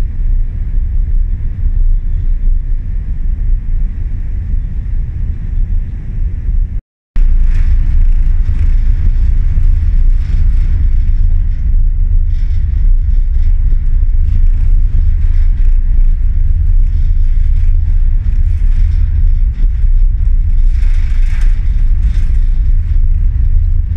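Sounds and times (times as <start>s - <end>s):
wind on microphone: 0.0s - 23.9s.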